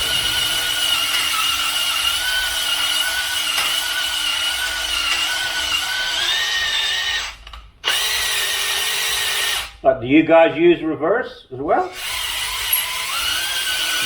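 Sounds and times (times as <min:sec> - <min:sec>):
electric drill whining: 0:00.0 - 0:09.8, 0:11.9 - 0:14.0.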